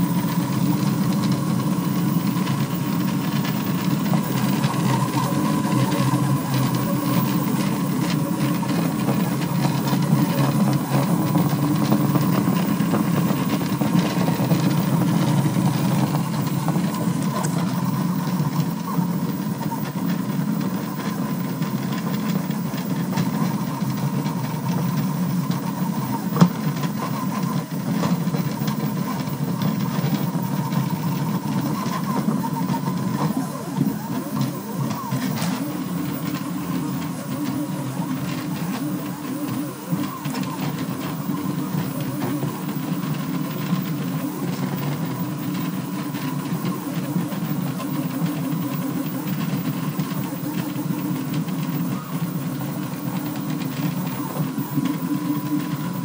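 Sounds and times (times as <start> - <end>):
stepper motors humming: 0.0 - 56.0
thin steady whine: 0.0 - 56.0.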